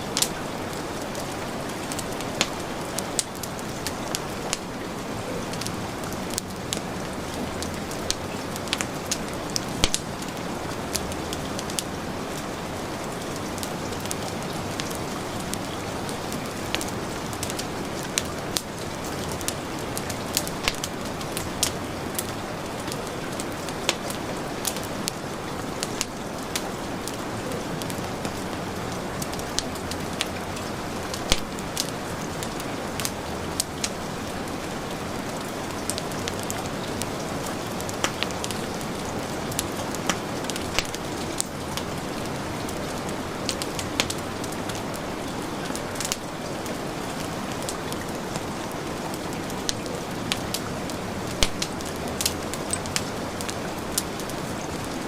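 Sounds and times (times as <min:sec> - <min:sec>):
heavy rain: 0:00.0 - 0:55.0
wood fire crackling: 0:00.0 - 0:55.0.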